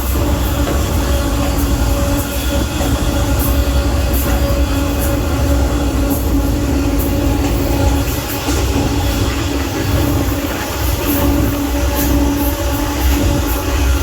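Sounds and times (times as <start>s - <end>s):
humming tone from wheels: 0.0s - 14.0s
train rumbling: 0.0s - 14.0s.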